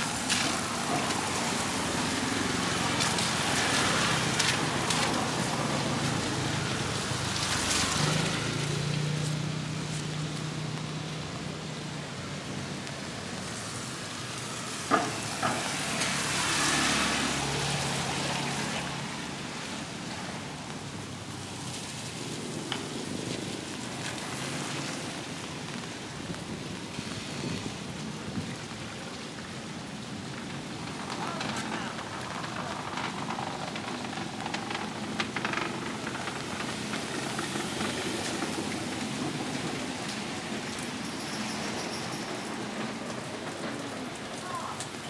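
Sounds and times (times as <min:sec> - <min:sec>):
rain hissing on street: 0:00.0 - 0:45.0.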